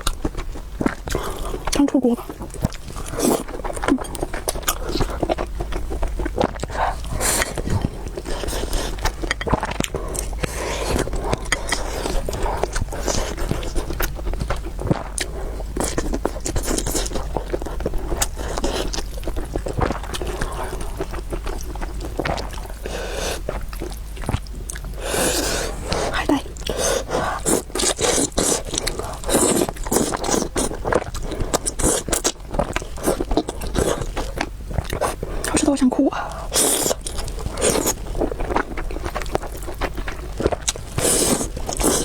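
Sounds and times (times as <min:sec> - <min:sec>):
slurping and chewing: 0:00.0 - 0:42.0.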